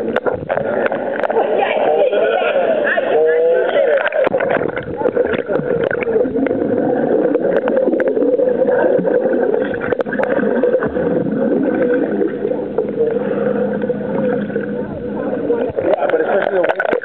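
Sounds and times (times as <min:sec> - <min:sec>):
muffled underwater rushing water: 0:00.0 - 0:17.0
swimmers' bubbles: 0:00.0 - 0:17.0.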